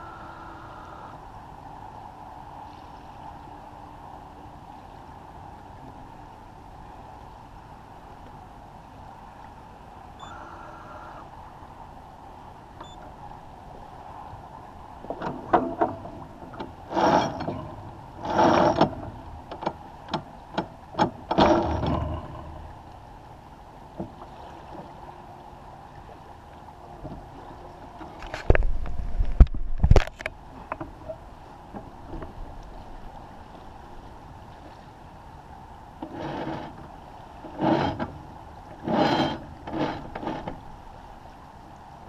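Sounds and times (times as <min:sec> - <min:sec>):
water and wind along hull: 0:00.0 - 0:42.0.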